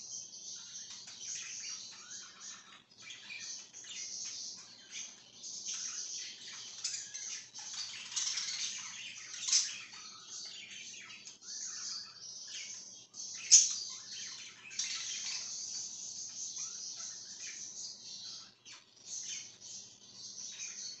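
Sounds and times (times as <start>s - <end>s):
budgerigars chattering and chirping: 0.0s - 21.0s.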